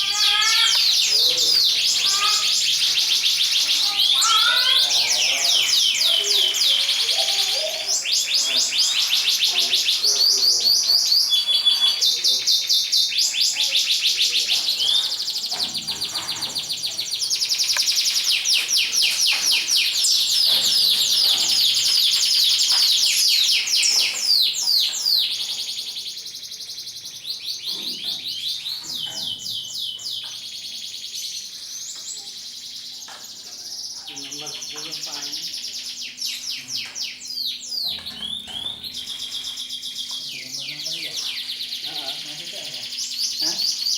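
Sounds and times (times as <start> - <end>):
canaries singing: 0.0 - 43.9.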